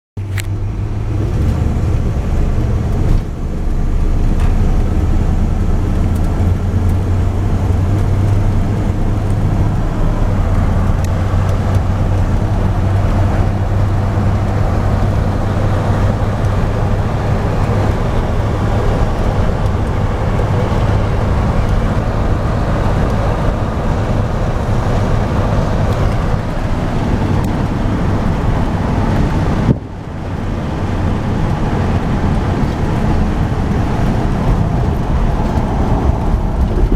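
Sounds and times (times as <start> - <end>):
truck engine running: 0.2 - 36.9.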